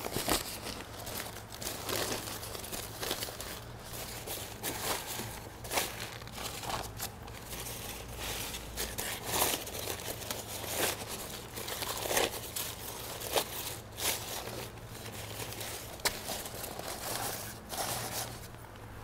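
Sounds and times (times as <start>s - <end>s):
sheet crinkling and rustling: 0.0s - 18.7s.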